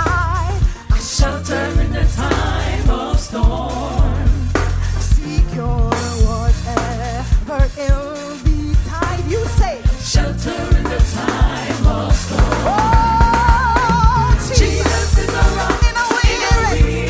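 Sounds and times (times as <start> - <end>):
voices singing with vibrato: 0.0 - 6.4, 9.0 - 17.0
gospel band playing: 0.0 - 17.0
drum hits: 0.7 - 17.0.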